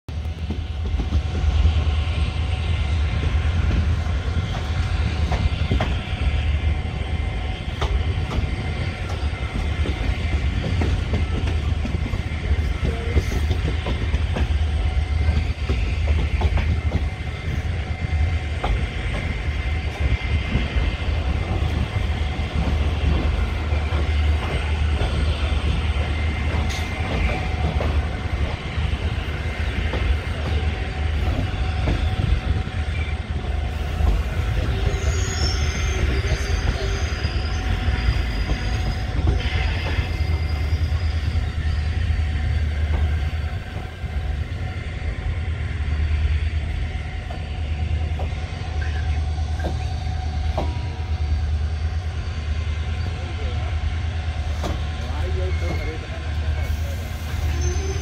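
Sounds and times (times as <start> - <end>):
train rumbling on track: 0.0 - 58.0
rail clicks: 0.1 - 58.0.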